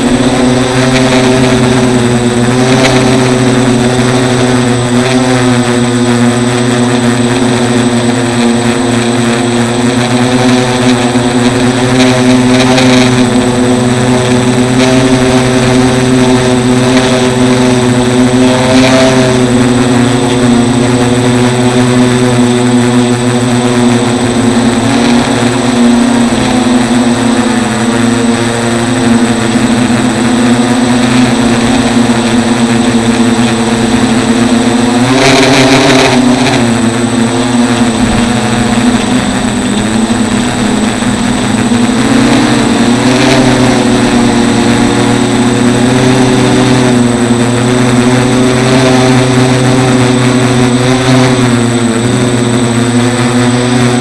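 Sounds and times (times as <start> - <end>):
drone motors buzzing: 0.0 - 54.0.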